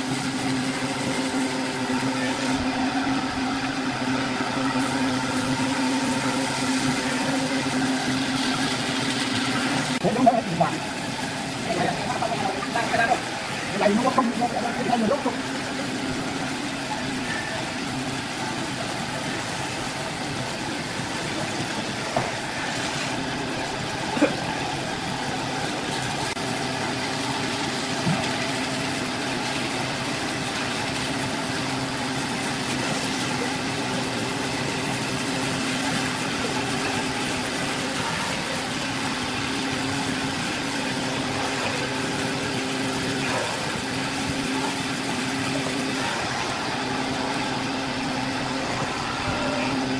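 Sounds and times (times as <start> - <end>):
wood lathe motor hum: 0.0 - 49.9.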